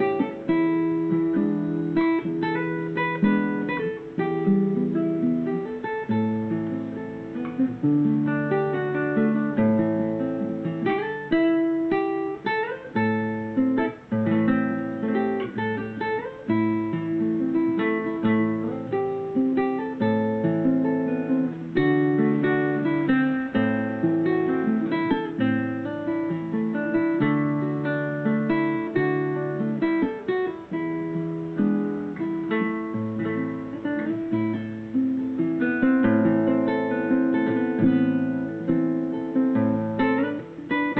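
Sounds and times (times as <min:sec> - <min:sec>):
fingerstyle classical guitar: 0:00.0 - 0:40.9.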